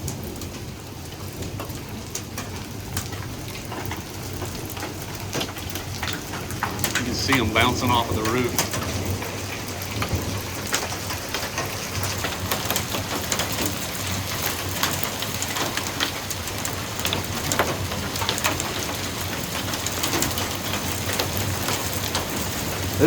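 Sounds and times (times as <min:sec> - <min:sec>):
hailstones hitting a roof: 0:00.0 - 0:23.0
rain-like hiss: 0:00.0 - 0:23.0.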